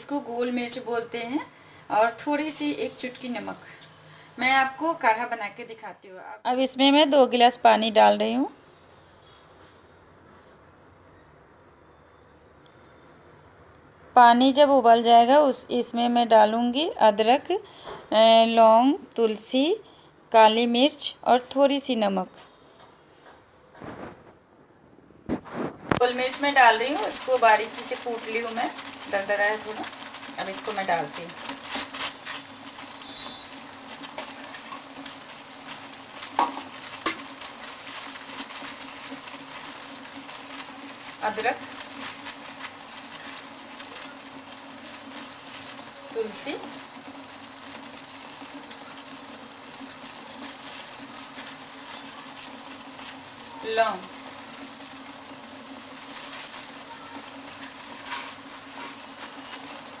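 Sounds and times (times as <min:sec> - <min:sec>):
gas stove hum and hiss: 0:00.0 - 1:00.0.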